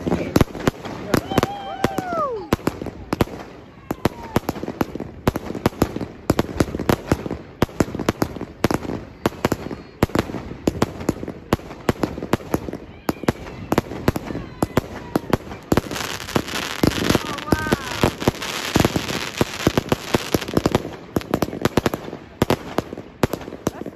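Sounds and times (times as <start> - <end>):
fireworks bangs and crackle: 0.0 - 23.9.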